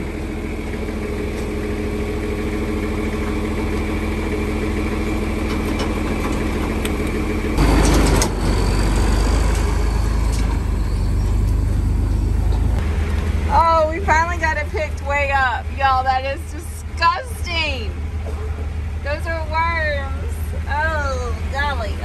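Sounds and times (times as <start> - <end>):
heavy low rumble: 0.0 - 22.0
tractor engine idling: 0.0 - 22.0.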